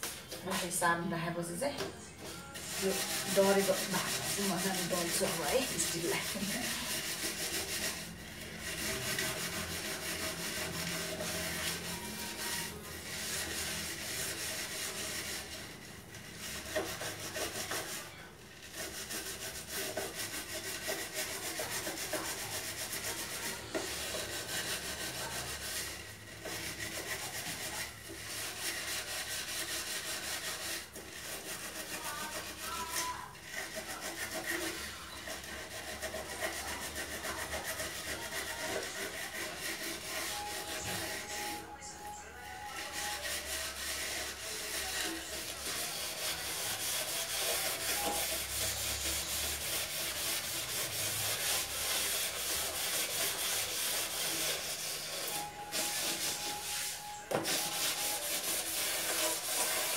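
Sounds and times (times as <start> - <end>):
scrubbing a stove: 0.0 - 59.9.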